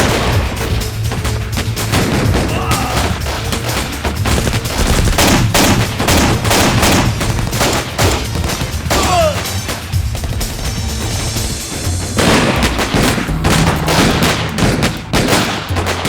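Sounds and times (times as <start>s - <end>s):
dramatic score music: 0.0s - 16.0s
rapid gunfire: 0.0s - 16.0s.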